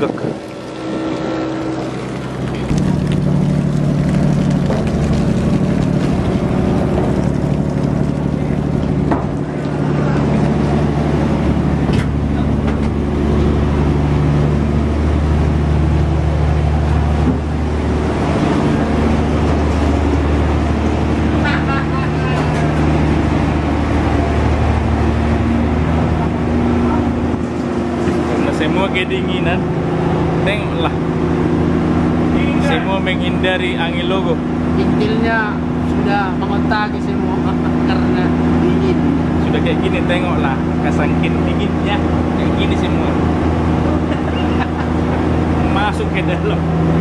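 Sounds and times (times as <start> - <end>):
boat engine droning: 0.0 - 47.0
water rushing: 0.0 - 47.0.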